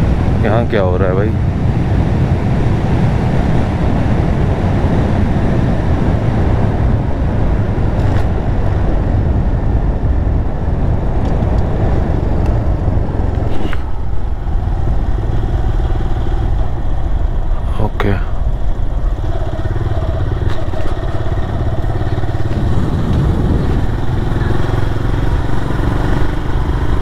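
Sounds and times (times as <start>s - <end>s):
wind on microphone: 0.0s - 27.0s
motorcycle engine running: 1.4s - 27.0s.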